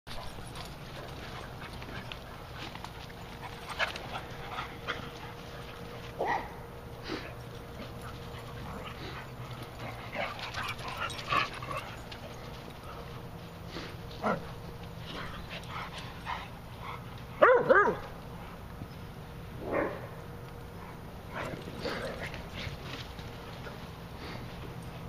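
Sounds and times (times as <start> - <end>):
dogs barking while playing: 0.1 - 13.3, 14.1 - 18.6, 19.5 - 22.8.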